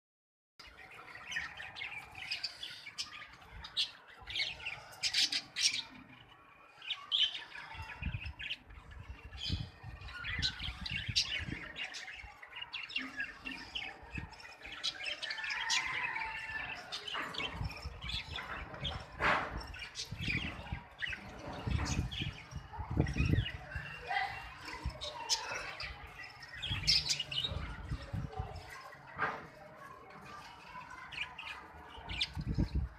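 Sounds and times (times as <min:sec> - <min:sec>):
budgerigars chirping and chattering: 0:00.6 - 0:29.6, 0:30.2 - 0:32.9.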